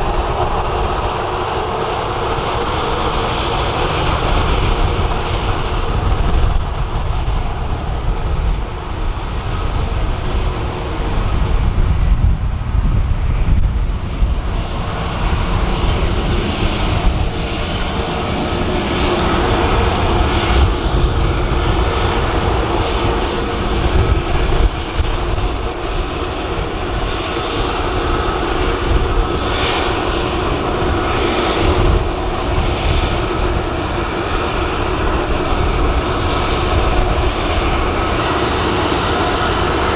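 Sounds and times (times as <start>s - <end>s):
jet engines whining: 0.0s - 39.9s
wind rumbling on microphone: 0.0s - 39.9s.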